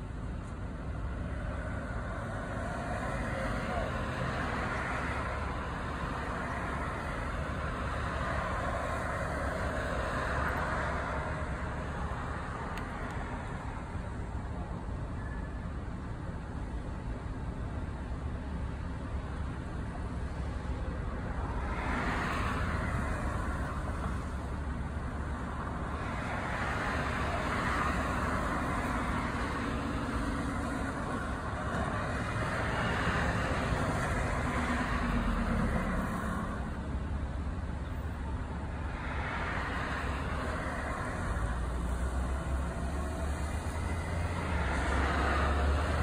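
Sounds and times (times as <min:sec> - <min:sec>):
cars passing: 0:00.0 - 0:15.4, 0:17.0 - 0:46.0.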